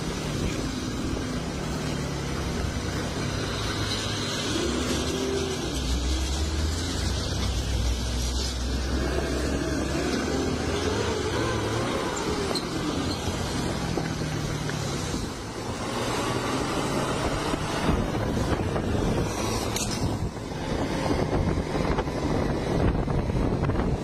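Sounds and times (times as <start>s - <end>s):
bus engine running under load: 0.0s - 24.0s
road and tyre noise: 0.0s - 24.0s.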